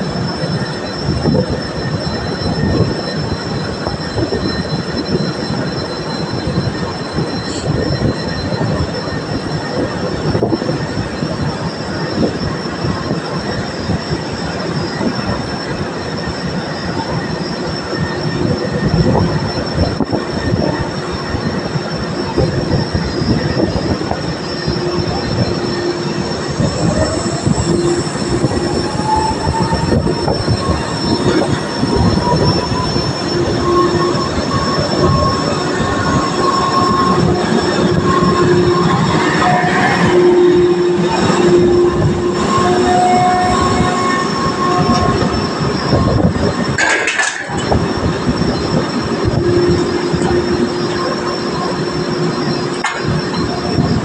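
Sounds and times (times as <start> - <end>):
drilling rig machinery: 0.0 - 54.0
high-pitched whine: 0.0 - 54.0
lower whine rising in pitch: 0.0 - 54.0.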